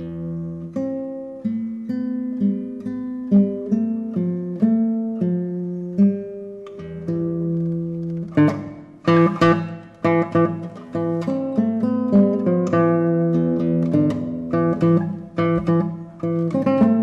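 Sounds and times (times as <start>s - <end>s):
solo guitar melody: 0.0s - 17.0s.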